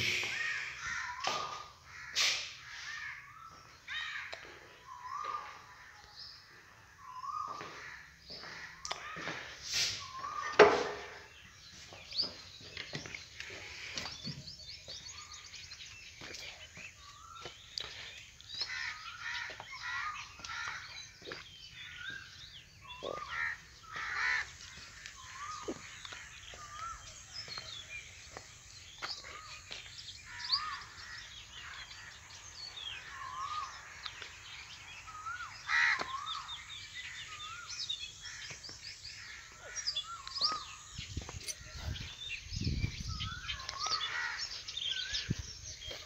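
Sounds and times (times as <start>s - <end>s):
birds chirping in chorus: 0.0s - 46.0s.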